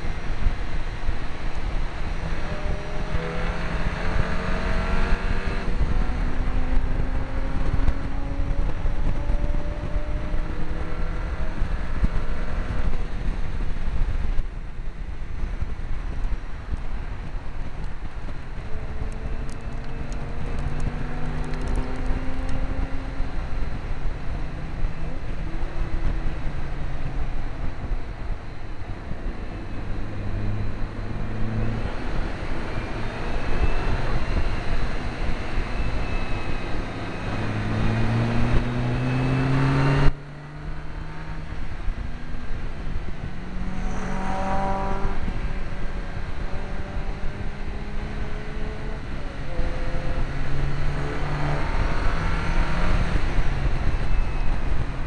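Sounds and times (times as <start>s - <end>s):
car engine accelerating hard: 0.0s - 55.0s
road noise: 0.0s - 55.0s
wind noise: 0.0s - 55.0s.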